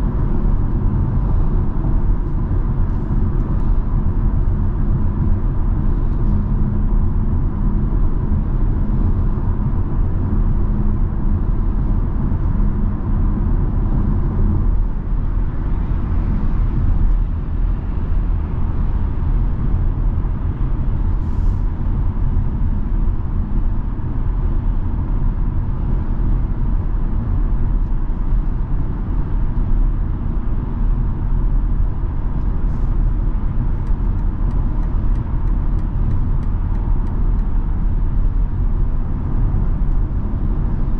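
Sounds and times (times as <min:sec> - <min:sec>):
car engine running: 0:00.0 - 0:40.9
road and tyre rumble: 0:00.0 - 0:40.9.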